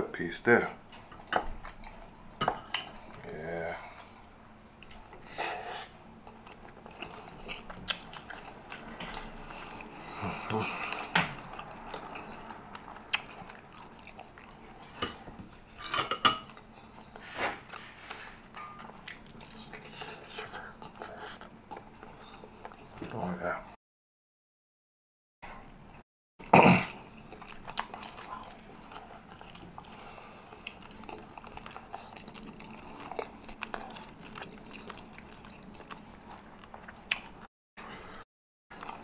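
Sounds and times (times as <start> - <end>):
person chewing food: 1.1 - 15.8, 16.4 - 23.2, 26.9 - 39.0.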